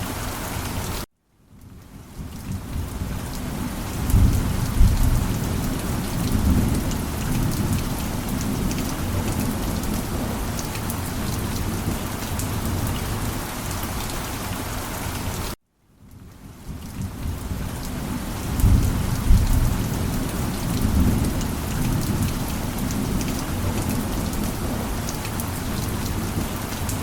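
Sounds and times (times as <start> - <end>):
heavy rain with drop ticks: 0.0 - 27.0
low rumble of thunder: 1.5 - 13.4, 16.2 - 27.0.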